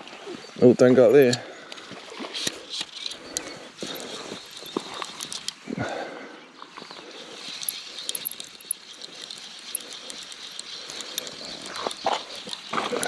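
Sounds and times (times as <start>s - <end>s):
small scattered ticks: 0.8s - 5.7s, 6.6s - 13.0s.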